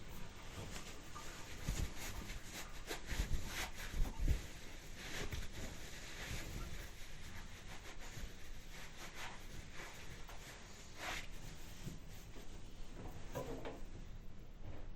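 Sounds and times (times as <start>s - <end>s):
towel rubbing hands: 0.0s - 14.2s.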